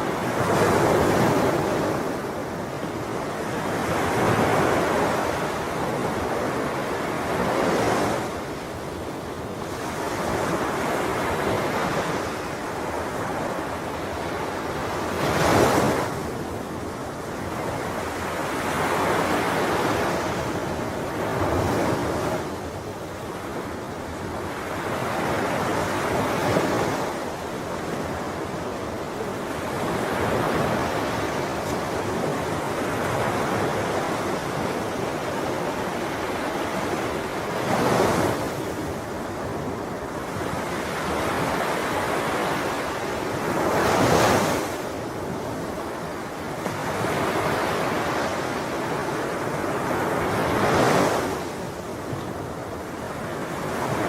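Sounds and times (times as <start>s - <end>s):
sea waves surging: 0.0s - 54.0s.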